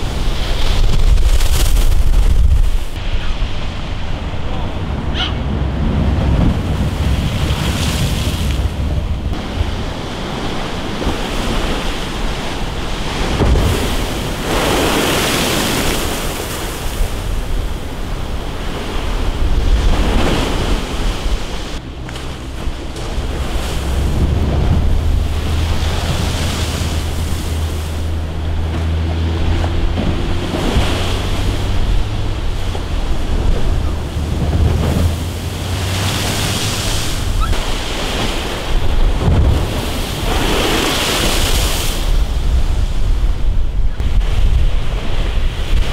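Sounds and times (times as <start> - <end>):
waves breaking against sea wall: 0.0 - 45.9
wind buffeting microphone: 0.0 - 45.9.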